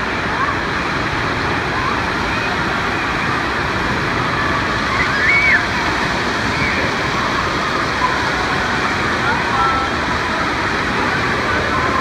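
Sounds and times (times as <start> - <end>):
waves breaking: 0.0 - 12.0.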